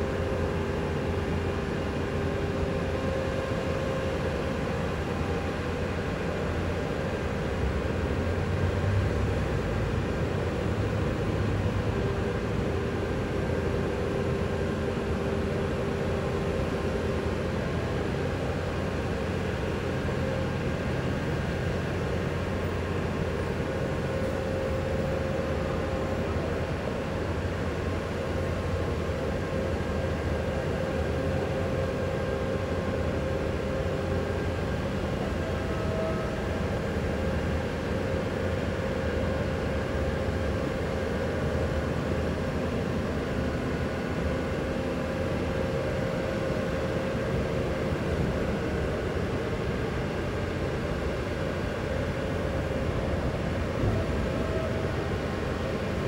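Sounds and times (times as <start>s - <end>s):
boom lift engine droning: 0.0s - 56.0s.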